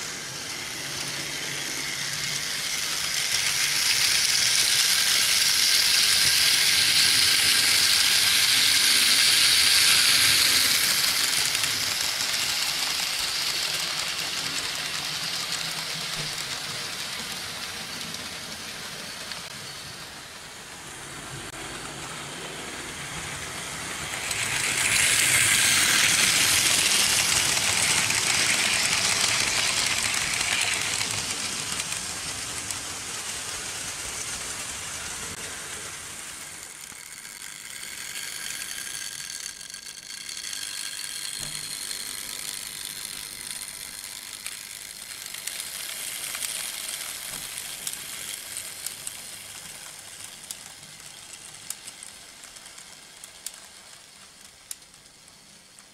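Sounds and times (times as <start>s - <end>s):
model trains running on metal track: 0.0s - 55.9s.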